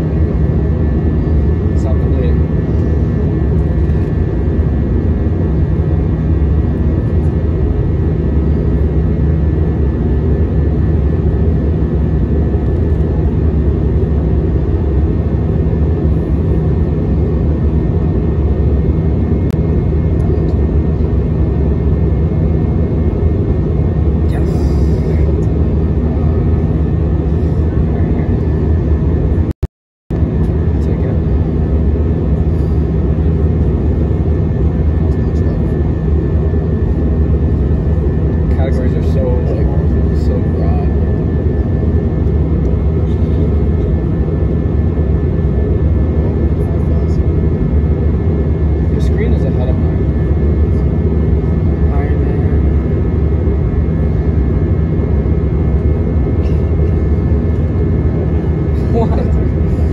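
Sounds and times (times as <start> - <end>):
aircraft cabin hum: 0.0 - 29.5, 30.1 - 59.9.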